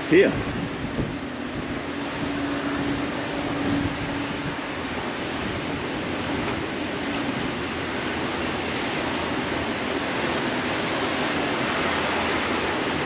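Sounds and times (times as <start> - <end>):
wind rushing: 0.0 - 13.0.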